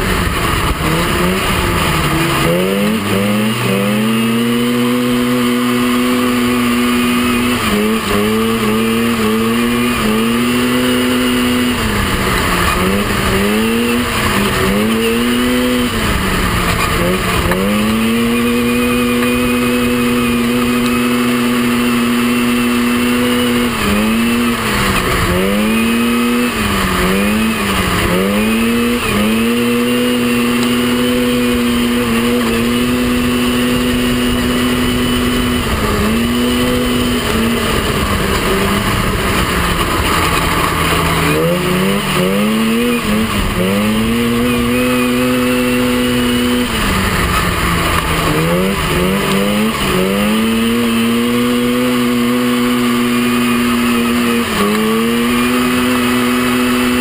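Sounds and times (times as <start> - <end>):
buggy engine revving: 0.0 - 57.0
track noise: 0.0 - 57.0.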